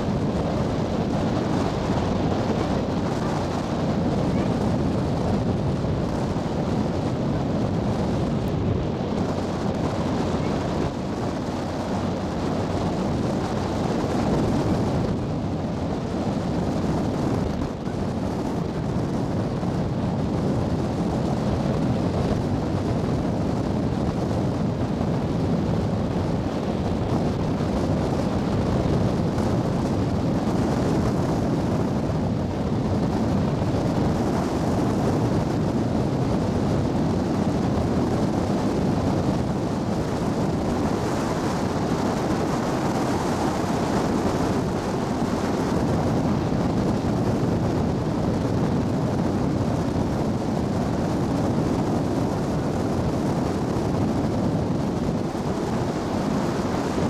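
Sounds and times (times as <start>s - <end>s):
ferry engine drone: 0.0s - 57.0s
wind on microphone: 0.0s - 57.0s.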